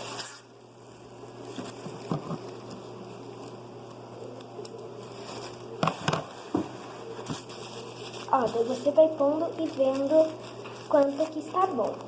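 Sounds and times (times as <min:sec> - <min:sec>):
plastic bag rustling: 0:00.0 - 0:04.1, 0:04.8 - 0:12.0
steady low hum: 0:00.0 - 0:12.0.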